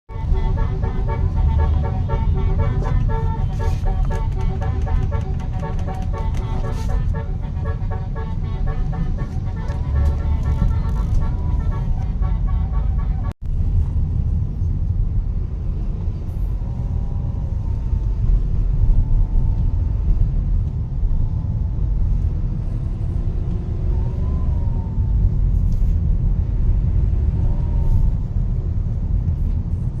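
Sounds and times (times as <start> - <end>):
vehicle rumble on road: 0.1 - 30.0.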